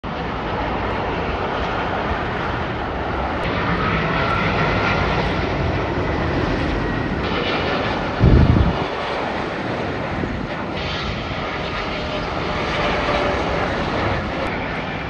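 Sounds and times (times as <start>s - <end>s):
jet engine rushing noise: 0.1s - 15.0s.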